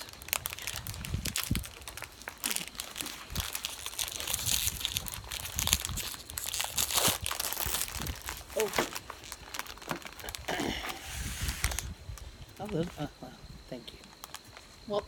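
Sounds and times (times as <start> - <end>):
plastic wrapper crinkling: 0.0 - 12.9, 13.9 - 14.9.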